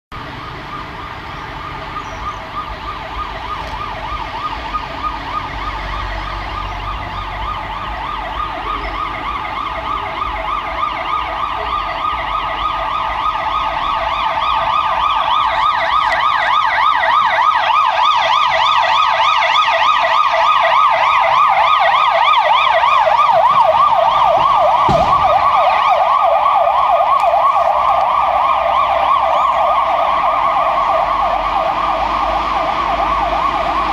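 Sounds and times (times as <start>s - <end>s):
siren yelping: 0.2s - 33.9s.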